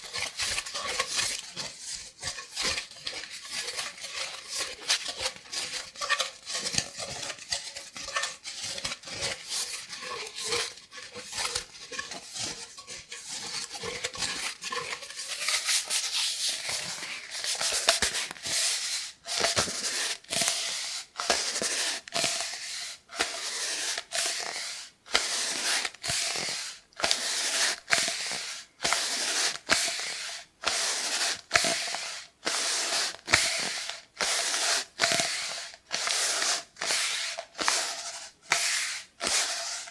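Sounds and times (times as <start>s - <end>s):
cardboard tube scratched and rubbed: 0.0s - 39.9s.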